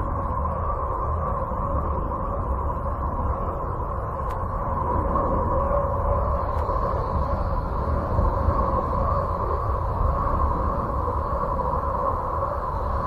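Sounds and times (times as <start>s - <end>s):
faint high whine: 0.0s - 13.0s
steady low rumble: 0.0s - 13.0s.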